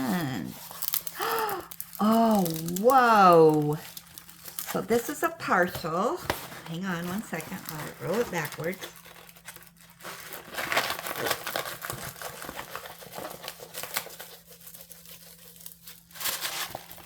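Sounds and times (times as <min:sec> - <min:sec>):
plastic film crinkling: 0:00.0 - 0:17.0.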